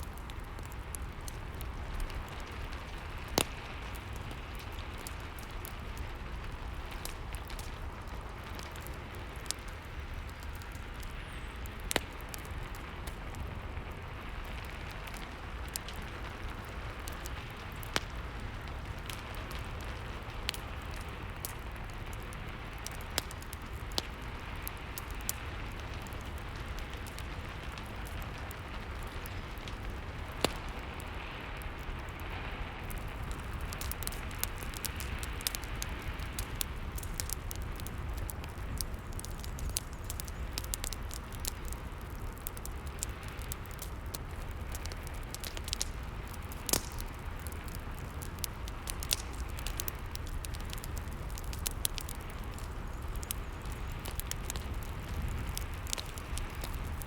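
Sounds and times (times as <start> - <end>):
sharp fire pops: 0.0 - 57.0
steady rain hiss: 0.0 - 57.0
wood fire crackling: 0.0 - 57.0.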